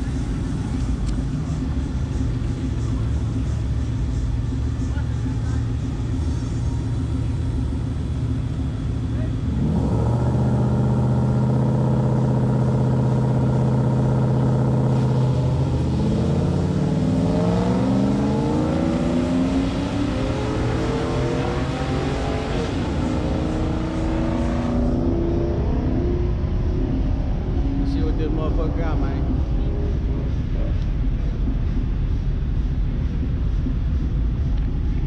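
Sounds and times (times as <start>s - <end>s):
drag racing car engines accelerating: 0.0s - 35.0s.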